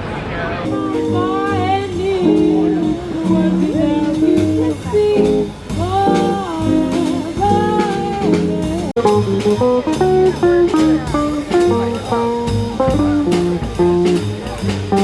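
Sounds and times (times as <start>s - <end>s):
plucked guitar melody: 0.6s - 15.0s.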